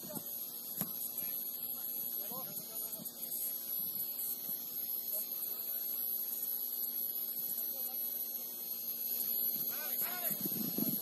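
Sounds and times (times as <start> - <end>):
electrical hum: 0.0 - 11.0
thin high-pitched whine: 0.0 - 11.0.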